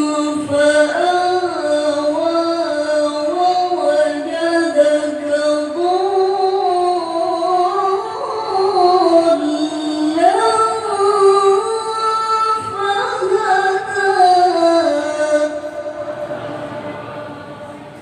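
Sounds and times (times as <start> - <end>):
person reciting melodically: 0.0 - 18.0.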